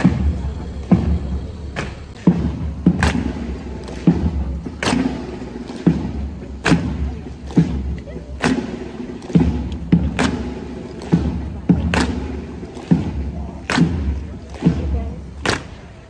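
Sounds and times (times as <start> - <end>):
hobnailed shoes marching on asphalt: 0.0 - 16.0.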